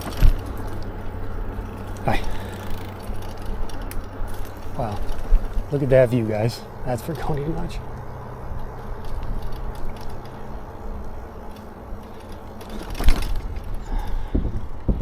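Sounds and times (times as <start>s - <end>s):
bike rattling and jangling: 0.0s - 15.0s
bike tyres rumbling: 0.0s - 15.0s
low hum: 0.0s - 15.0s.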